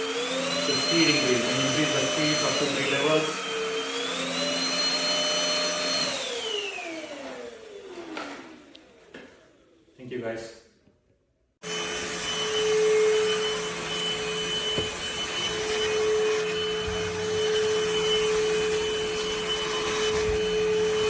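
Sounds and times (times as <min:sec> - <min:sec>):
stick vacuum running: 0:00.0 - 0:09.9, 0:11.6 - 0:21.0.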